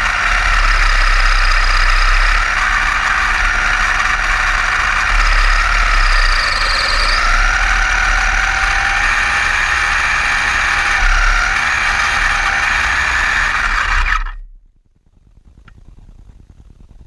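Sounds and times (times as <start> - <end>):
electric motor whining: 0.0 - 14.5.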